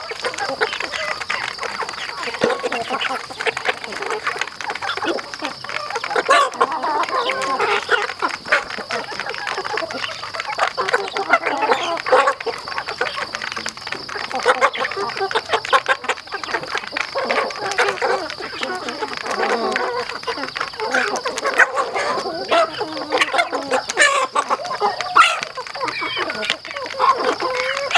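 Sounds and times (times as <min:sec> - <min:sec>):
beaks tapping plastic trough: 0:00.0 - 0:27.9
chickens clucking: 0:00.0 - 0:27.9.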